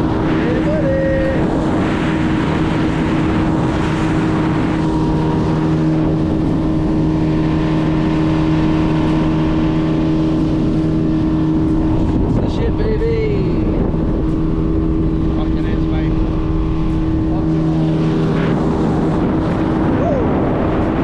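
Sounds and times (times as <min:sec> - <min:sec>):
motorboat engine droning: 0:00.0 - 0:21.0
water rushing under boat: 0:00.0 - 0:21.0.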